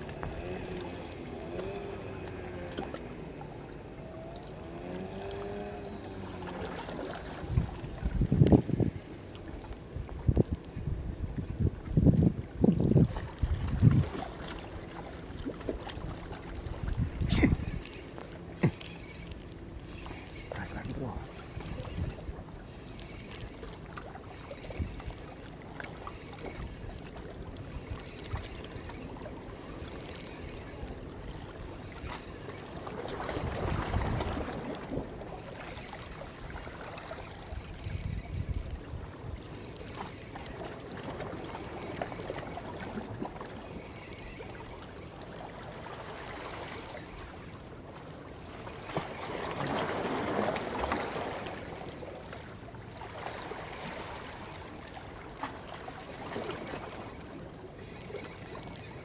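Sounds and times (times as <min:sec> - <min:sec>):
sea water lapping at shore: 0:00.0 - 0:59.0.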